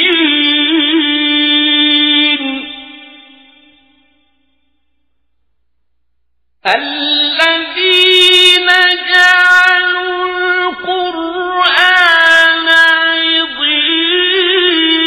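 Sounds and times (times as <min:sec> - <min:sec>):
man chanting melodically: 0:00.0 - 0:03.8, 0:06.6 - 0:15.0.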